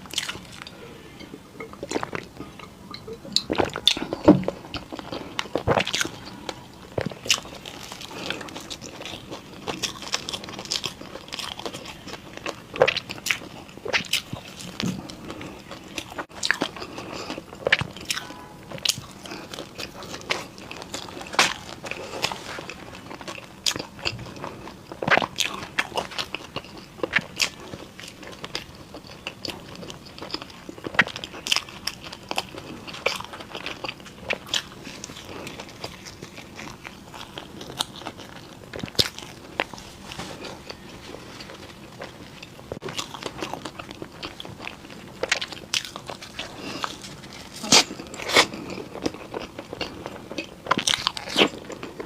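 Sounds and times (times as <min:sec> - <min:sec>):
crunchy pastry chewing: 0:03.3 - 0:52.0.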